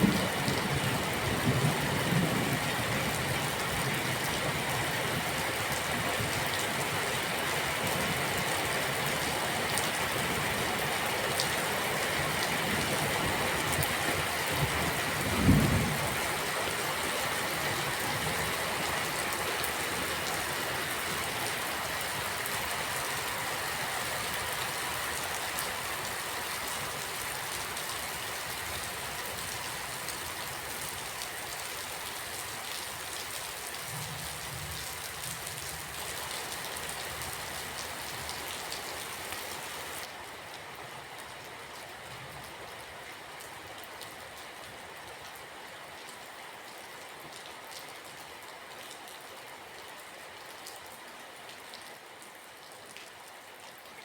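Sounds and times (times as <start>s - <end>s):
steady rain hiss: 0.0s - 47.8s.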